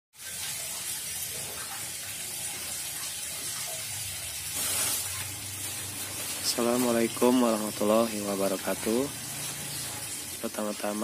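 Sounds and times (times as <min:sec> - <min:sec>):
running water hissing: 0:00.2 - 0:11.0.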